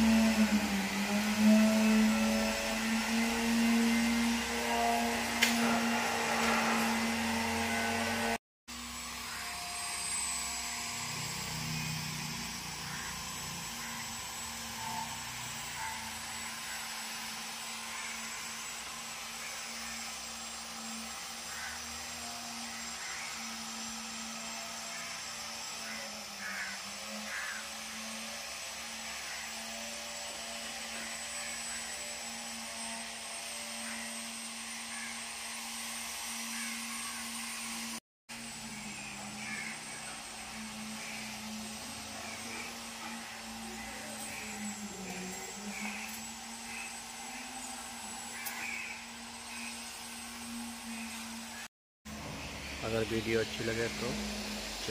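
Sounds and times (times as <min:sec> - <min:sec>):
small motor humming: 0:00.0 - 0:54.9.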